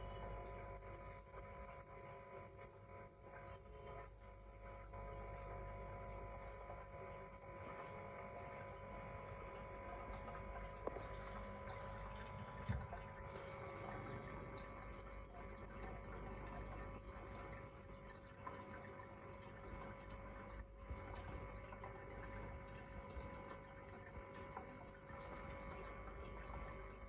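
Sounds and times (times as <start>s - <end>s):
aquarium pump hum: 0.0s - 27.0s
water trickling: 0.0s - 27.0s.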